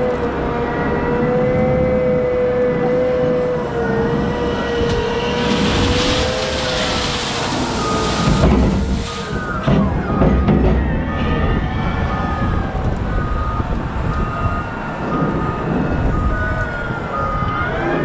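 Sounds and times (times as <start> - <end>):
diesel engine rumbling: 0.0 - 17.8.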